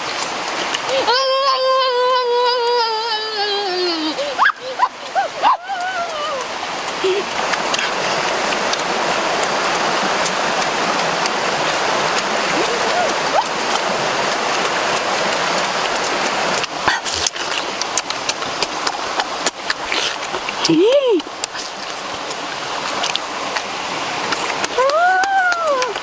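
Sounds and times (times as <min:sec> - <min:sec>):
eating clicks and smacks: 0:00.0 - 0:00.9, 0:05.4 - 0:26.0
stream flowing over rocks: 0:00.0 - 0:26.0.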